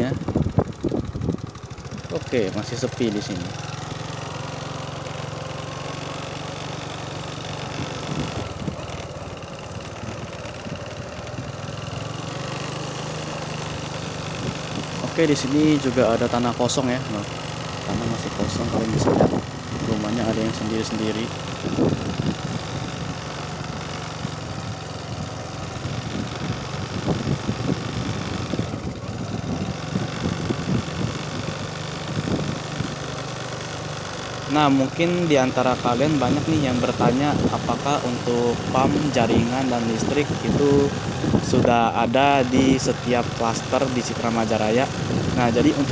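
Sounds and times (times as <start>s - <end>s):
small vehicle engine running: 0.0s - 45.9s.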